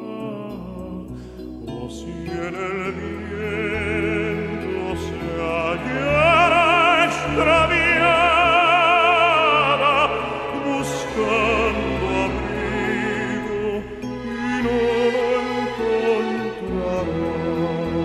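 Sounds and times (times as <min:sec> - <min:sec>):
operatic singing: 0:00.0 - 0:18.0
orchestral accompaniment: 0:02.4 - 0:18.0.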